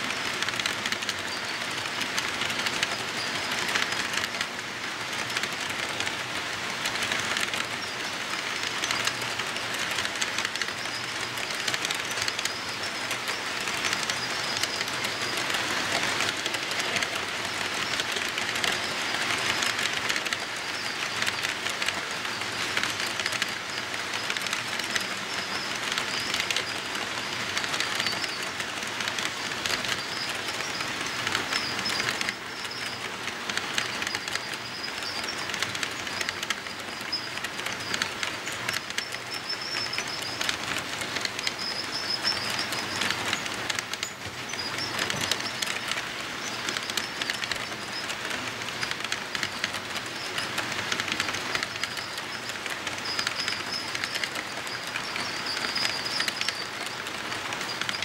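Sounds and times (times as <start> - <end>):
model train cars rolling on track: 0.0 - 58.0
wheels clicking over rail joints: 0.0 - 58.0.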